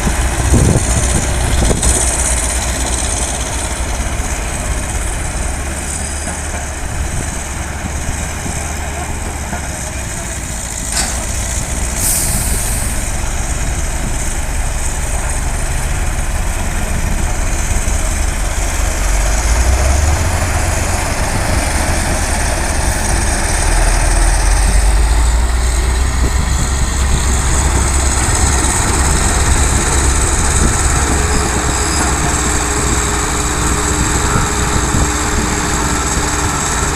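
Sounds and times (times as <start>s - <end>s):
diesel machinery engine hum: 0.0s - 36.9s.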